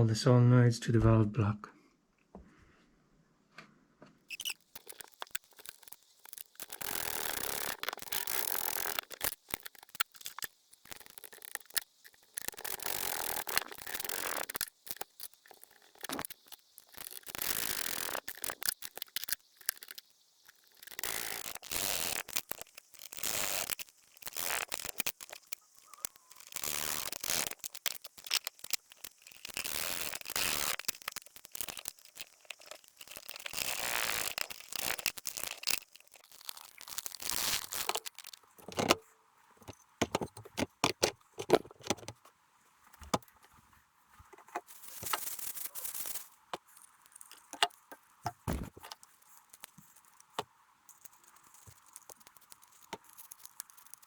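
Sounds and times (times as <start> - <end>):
rustling and scraping of parts: 2.4 - 54.0
small clicks: 4.3 - 42.3, 44.4 - 54.0.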